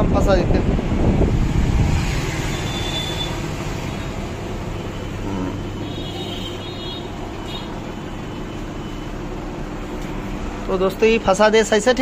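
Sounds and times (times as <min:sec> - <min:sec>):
low background rumble and hum: 0:00.0 - 0:12.0.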